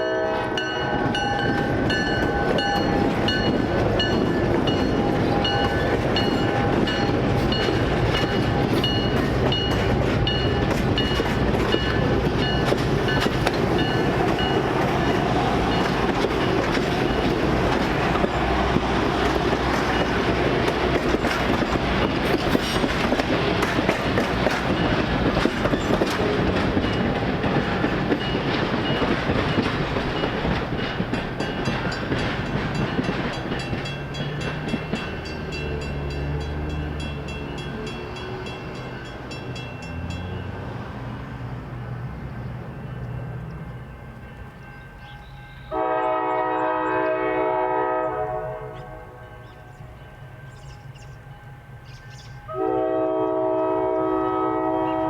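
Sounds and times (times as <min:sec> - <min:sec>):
passenger train rolling past: 0:00.0 - 0:55.0
train wheels clicking over rail joints: 0:00.8 - 0:45.8.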